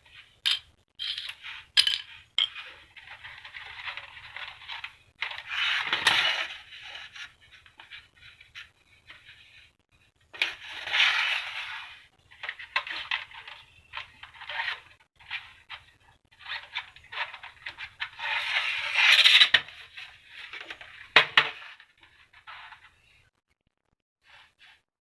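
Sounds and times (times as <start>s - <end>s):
hands scraping and rustling parts: 0.0s - 23.1s.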